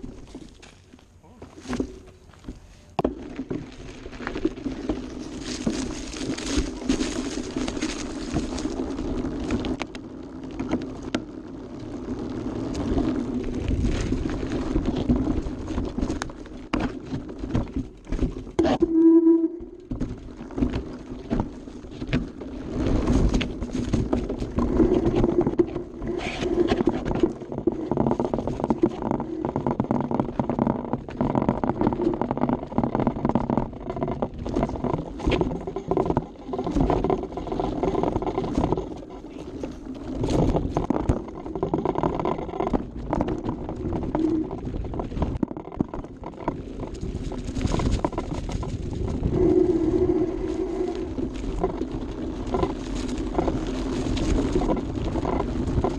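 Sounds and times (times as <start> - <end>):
bike knocking and rattling: 0.0 - 55.9
tyres rumbling on dirt trail: 0.0 - 55.9.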